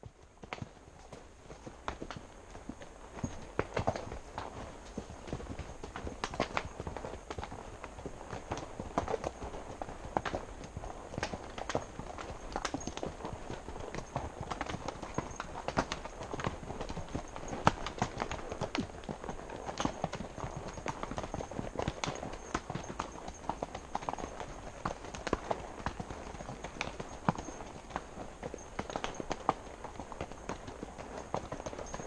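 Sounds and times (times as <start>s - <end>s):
horse hooves on rocky trail: 0.0s - 32.0s.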